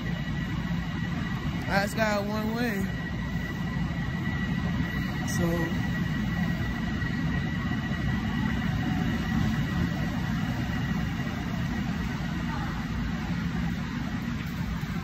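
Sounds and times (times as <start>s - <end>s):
faint high whine: 0.0s - 15.0s
low mechanical rumble: 0.0s - 15.0s.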